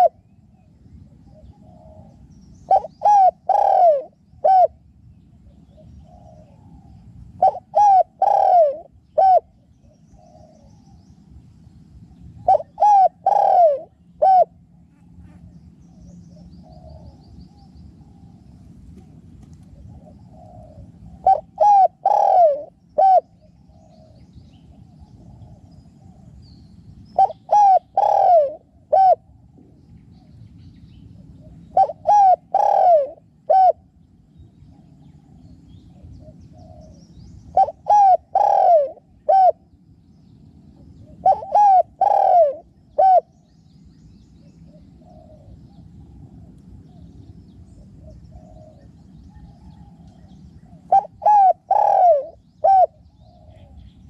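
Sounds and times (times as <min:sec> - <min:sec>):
dove cooing: 0:00.0 - 0:00.2, 0:01.2 - 0:04.8, 0:05.5 - 0:10.9, 0:12.4 - 0:14.6, 0:15.4 - 0:26.4, 0:27.1 - 0:29.4, 0:31.1 - 0:33.9, 0:34.7 - 0:39.6, 0:40.7 - 0:43.3, 0:44.6 - 0:54.0
faint dove cooing: 0:00.0 - 0:04.8, 0:05.4 - 0:11.0, 0:12.4 - 0:26.5, 0:27.1 - 0:29.6, 0:31.1 - 0:33.9, 0:34.6 - 0:39.6, 0:40.6 - 0:43.3, 0:44.5 - 0:54.0.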